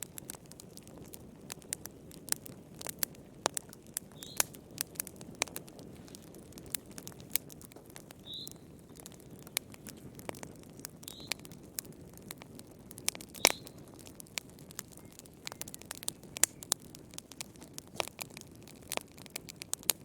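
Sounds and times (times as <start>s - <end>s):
wood fire crackling and popping: 0.0s - 20.0s
high squeaks from burning wood: 2.4s - 12.1s, 12.9s - 19.8s.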